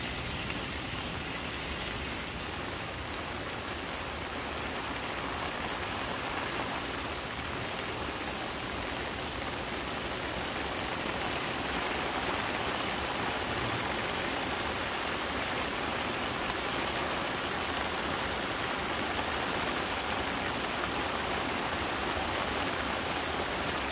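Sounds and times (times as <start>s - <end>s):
rain falling: 0.0s - 23.9s.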